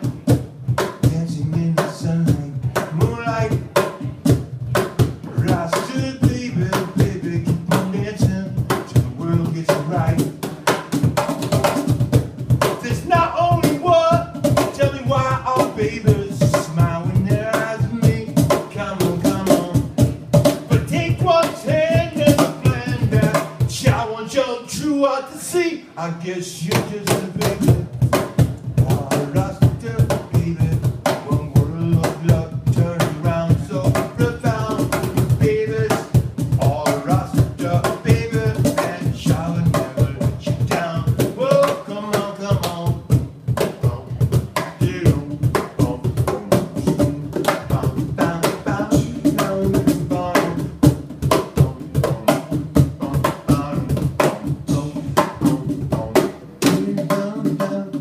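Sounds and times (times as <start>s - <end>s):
hand drums playing groove: 0.0s - 24.3s, 26.6s - 58.0s
man singing: 0.9s - 4.2s, 5.1s - 11.9s, 12.6s - 58.0s.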